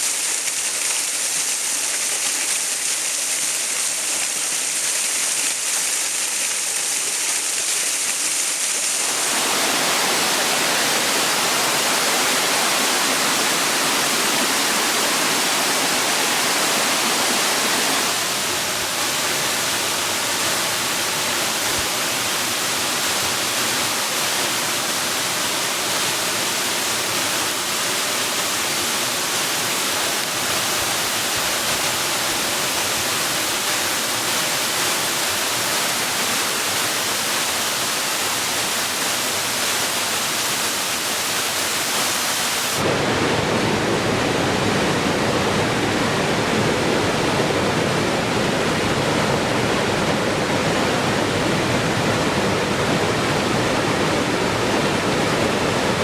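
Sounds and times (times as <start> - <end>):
rush of falling water: 0.0 - 56.0.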